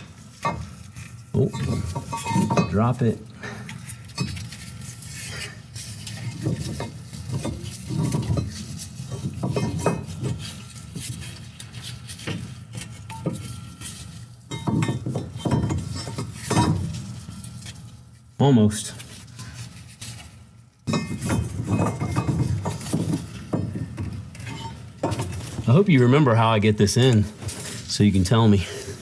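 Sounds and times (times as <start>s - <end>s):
metal clanking and scraping: 0.0s - 18.0s, 19.2s - 29.0s.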